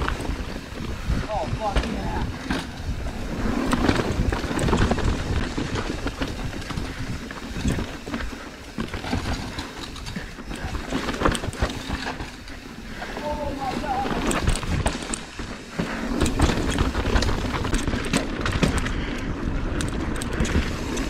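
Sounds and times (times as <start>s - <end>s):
bike tyres rolling over dirt and rock: 0.0s - 21.0s
wind buffeting microphone: 0.0s - 21.0s
bike knocks and clatter: 1.6s - 12.6s, 13.2s - 21.0s.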